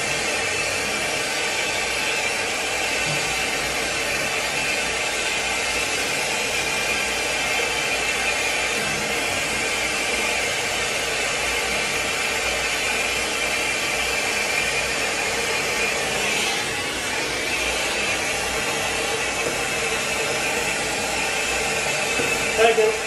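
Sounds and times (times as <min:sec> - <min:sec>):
gas torch hissing: 0:00.0 - 0:23.0.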